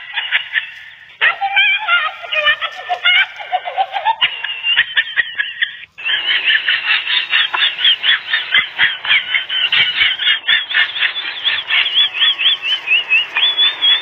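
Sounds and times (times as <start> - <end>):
puppies yipping and squealing: 0.0 - 14.0.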